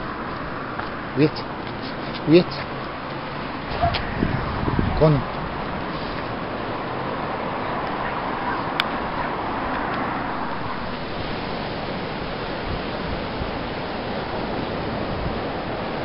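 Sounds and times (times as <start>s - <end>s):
sea surf: 0.0s - 16.0s
wind on microphone: 2.9s - 16.0s.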